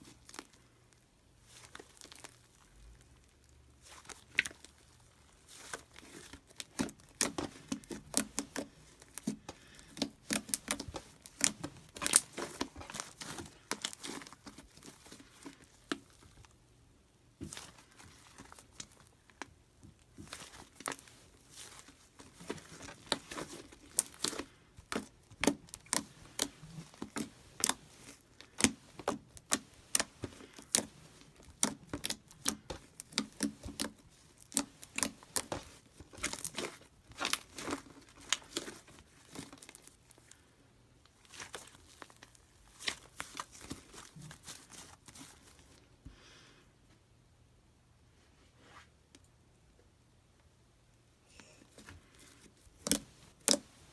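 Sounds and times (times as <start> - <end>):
hands squishing slime: 0.0 - 46.0, 51.3 - 53.9.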